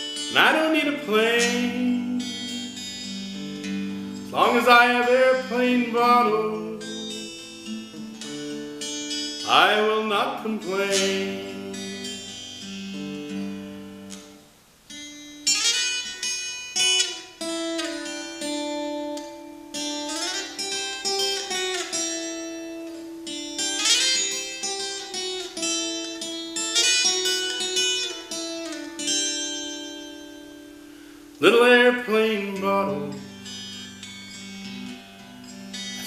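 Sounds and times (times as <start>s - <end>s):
fingerpicked acoustic guitar: 0.0s - 36.0s.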